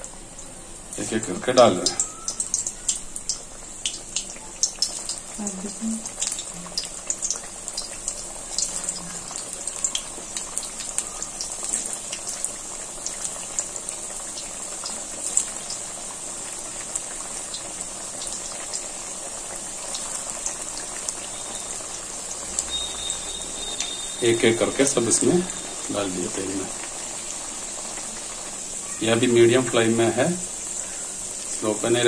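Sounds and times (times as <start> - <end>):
fritters deep-frying in oil: 0.0 - 32.0.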